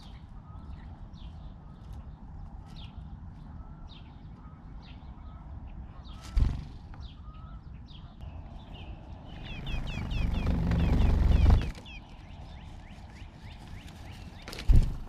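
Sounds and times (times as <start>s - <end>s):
low background rumble: 0.0s - 13.7s
sparrows chirping: 0.0s - 15.0s.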